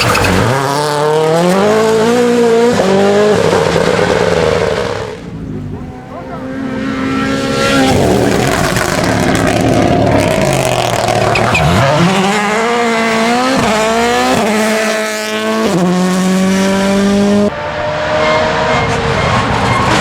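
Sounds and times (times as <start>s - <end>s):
rally car engine at full throttle: 0.0s - 20.0s
tyre noise: 0.0s - 20.0s.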